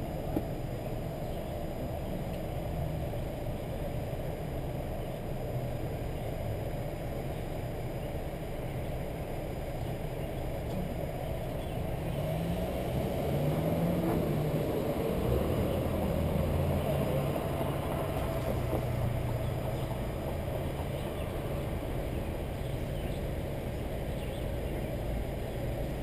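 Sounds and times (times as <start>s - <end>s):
car engine running: 0.0s - 26.0s
road noise: 0.0s - 26.0s.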